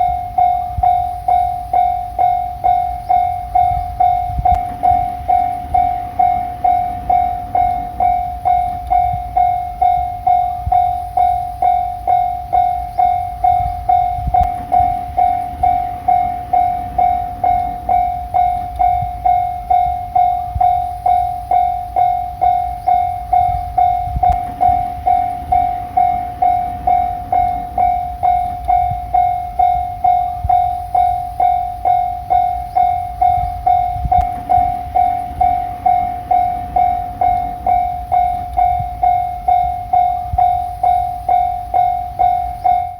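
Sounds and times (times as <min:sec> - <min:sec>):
diesel train passing: 0:00.0 - 0:42.9
level-crossing alarm bell: 0:00.0 - 0:42.9
wheels clicking over rail joints: 0:00.0 - 0:42.9.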